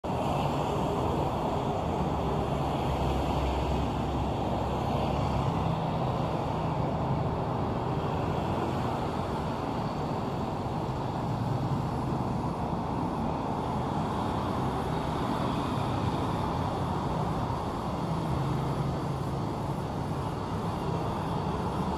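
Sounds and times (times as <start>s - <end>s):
city street traffic rumble: 0.0s - 21.9s.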